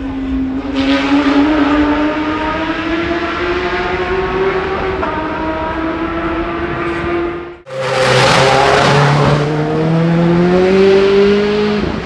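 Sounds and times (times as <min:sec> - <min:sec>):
racing car engine at high revs: 0:00.0 - 0:12.0.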